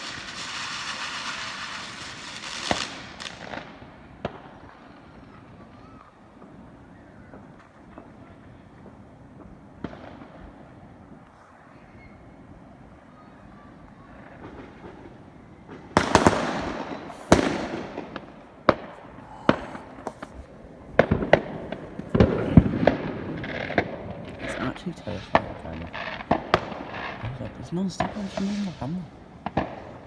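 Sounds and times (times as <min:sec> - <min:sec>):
fireworks banging and crackling: 0:00.0 - 0:06.7, 0:07.3 - 0:11.2, 0:14.0 - 0:30.0.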